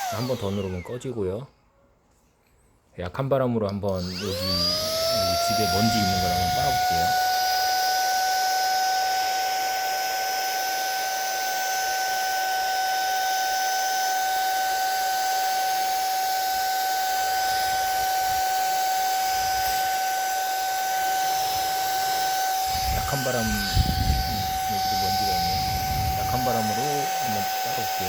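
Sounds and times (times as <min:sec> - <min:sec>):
vacuum cleaner motor whine: 0:00.0 - 0:01.4, 0:03.9 - 0:28.0.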